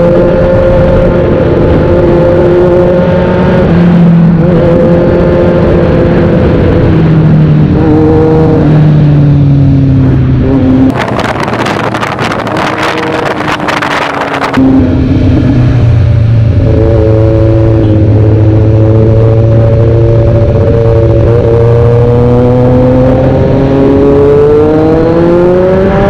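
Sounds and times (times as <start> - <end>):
motorcycle engine: 0.0 - 26.0
rushing crackling wind noise: 0.0 - 26.0.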